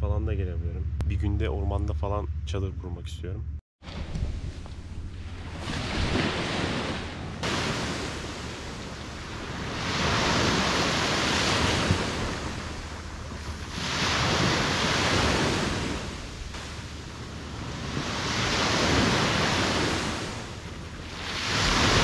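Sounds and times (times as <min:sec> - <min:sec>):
wind on microphone: 0:03.8 - 0:22.0
sea waves washing onto beach: 0:03.9 - 0:22.0.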